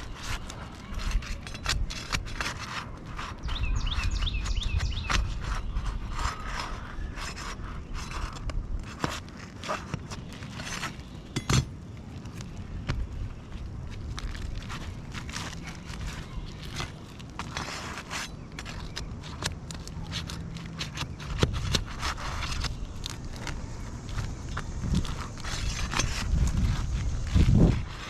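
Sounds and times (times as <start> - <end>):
tools scraping under roof shingles: 0.0 - 28.0.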